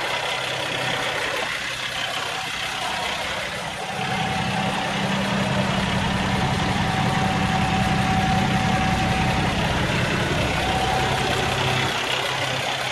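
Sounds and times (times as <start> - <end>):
diesel truck engine idling: 0.0 - 12.9.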